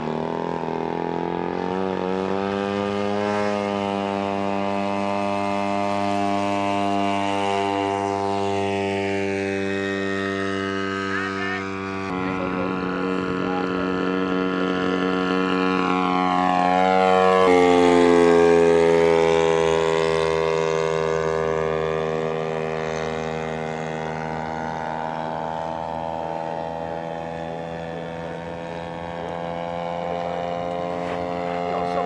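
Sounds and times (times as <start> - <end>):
model airplane engine buzzing past: 0.0 - 32.0.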